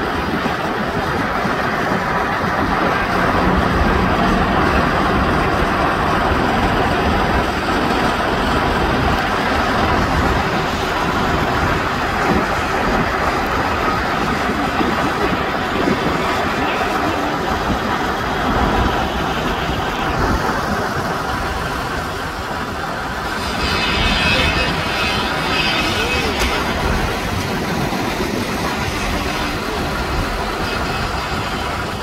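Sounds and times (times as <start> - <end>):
urban traffic rumble: 0.0 - 32.0.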